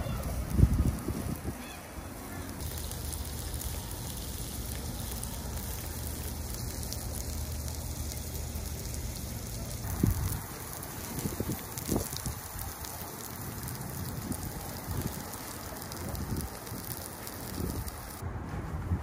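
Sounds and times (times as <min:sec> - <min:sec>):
scallops sizzling on a grill: 0:00.0 - 0:18.2.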